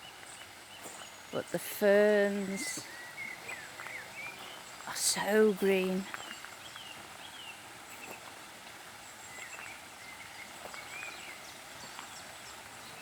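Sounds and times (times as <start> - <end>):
birds chirping: 0.0 - 13.0
faint footsteps on garden path: 0.0 - 13.0
flowing water hiss: 0.0 - 13.0.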